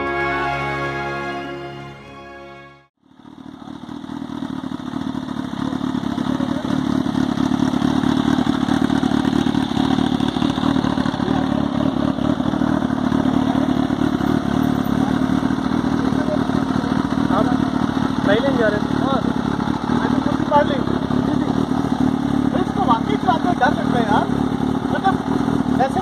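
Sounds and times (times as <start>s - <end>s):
motorcycle engine running: 3.0s - 26.0s.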